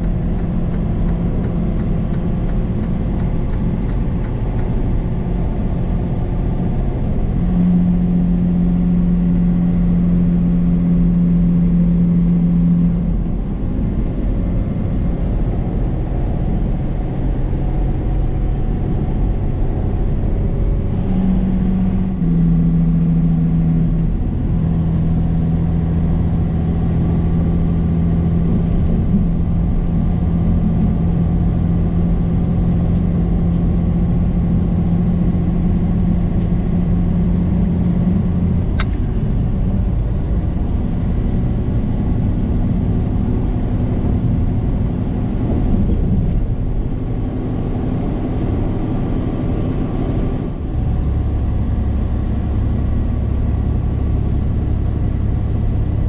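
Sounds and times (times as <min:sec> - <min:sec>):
road noise: 0:00.0 - 0:56.0
truck engine drone: 0:00.0 - 0:56.0.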